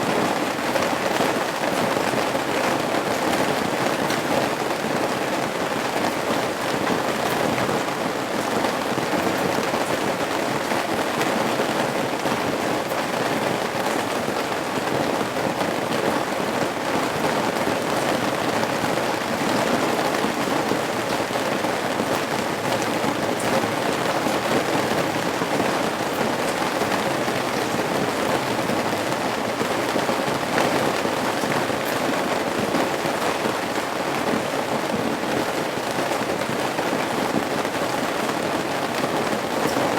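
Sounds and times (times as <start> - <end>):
rain dripping from roof eaves: 0.0 - 39.9.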